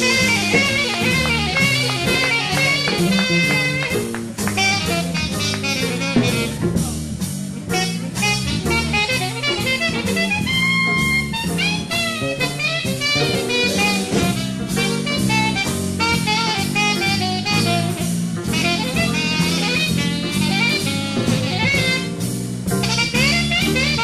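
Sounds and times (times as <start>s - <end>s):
big band jazz: 0.0s - 24.0s
saxophone lead: 0.0s - 24.0s.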